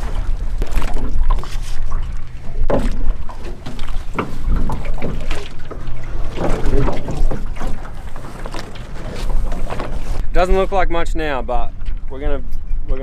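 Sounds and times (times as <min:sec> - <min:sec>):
oars splashing in water: 0:00.0 - 0:10.8.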